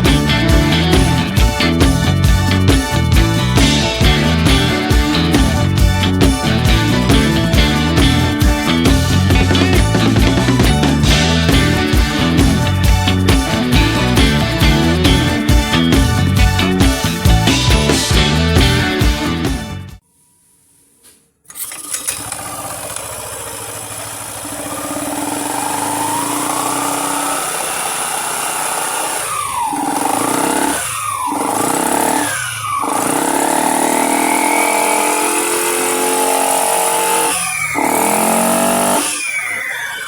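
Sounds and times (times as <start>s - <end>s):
scooter engine revving: 0.0s - 18.8s, 21.5s - 40.0s.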